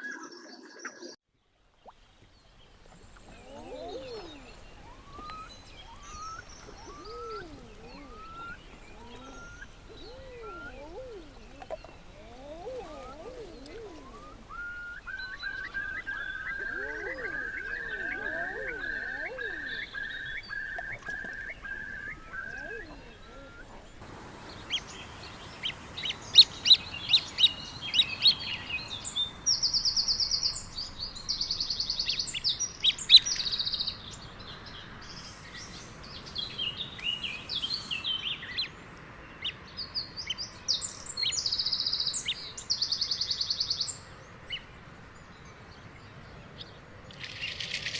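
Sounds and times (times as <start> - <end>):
birds chirping: 1.8 - 47.9.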